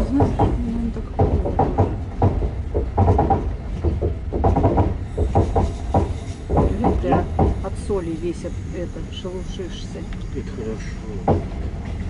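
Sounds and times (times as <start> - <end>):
train rumbling and clattering: 0.0 - 12.0.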